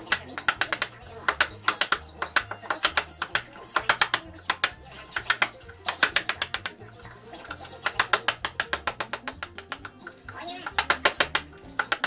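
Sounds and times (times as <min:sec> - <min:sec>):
hammer tapping a chisel: 0:00.0 - 0:06.8, 0:07.6 - 0:12.0
background music: 0:00.0 - 0:12.0.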